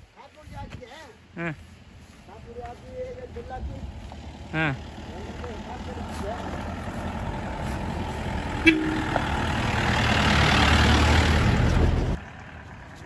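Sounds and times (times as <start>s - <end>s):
truck engine rumble: 0.6s - 13.0s.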